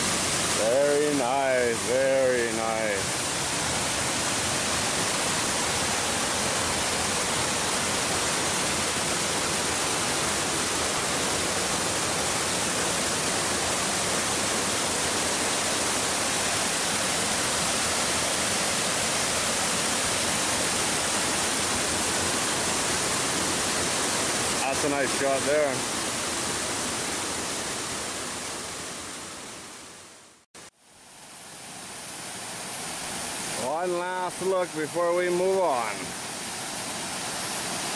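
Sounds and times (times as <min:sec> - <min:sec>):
waterfall rushing: 0:00.0 - 0:29.9, 0:31.1 - 0:37.9.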